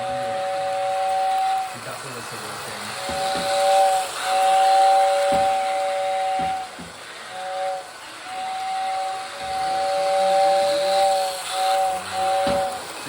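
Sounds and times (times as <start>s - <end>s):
model train whistle blasts: 0.0s - 13.0s.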